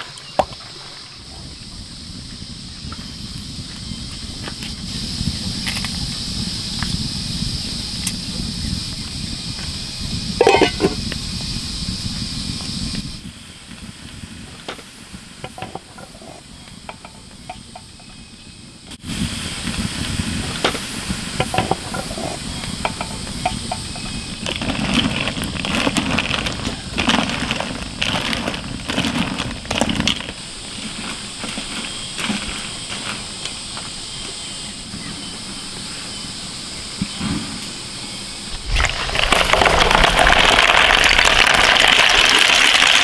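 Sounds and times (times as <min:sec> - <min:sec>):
steady hiss: 0:00.0 - 0:43.0
fire crackling: 0:01.7 - 0:34.0, 0:38.4 - 0:43.0
pot boiling: 0:02.0 - 0:33.8, 0:38.5 - 0:43.0.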